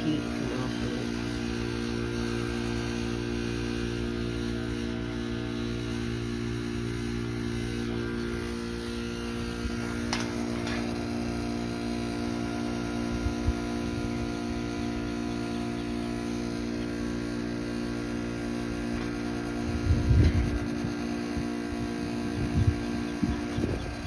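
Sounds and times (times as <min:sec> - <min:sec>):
heat pump compressor hum: 0:00.0 - 0:24.0.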